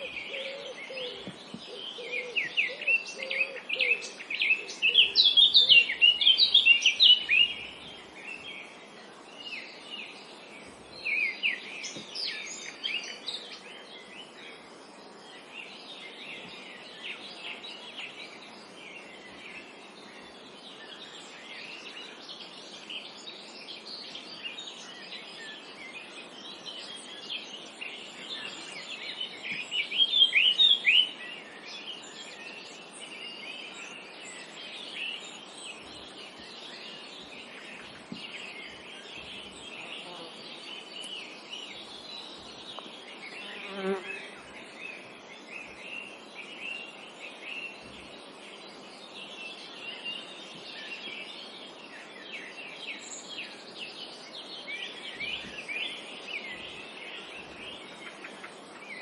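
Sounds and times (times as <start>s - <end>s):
faint background hiss: 0.0s - 59.0s
songbirds chirping: 0.0s - 59.0s.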